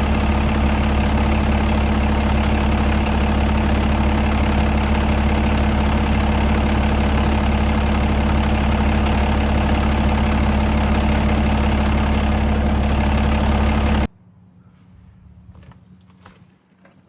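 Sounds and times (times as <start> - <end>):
diesel truck engine idling: 0.0 - 14.1.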